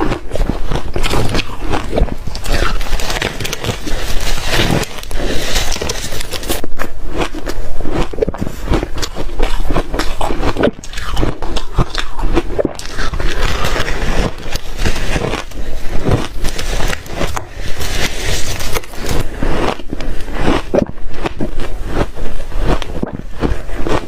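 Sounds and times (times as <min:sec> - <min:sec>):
person chewing crunchy ice: 0:00.0 - 0:24.0.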